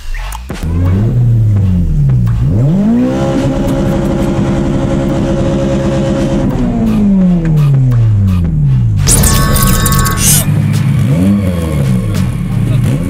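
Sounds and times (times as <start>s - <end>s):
car engine at full throttle: 0.5s - 13.0s.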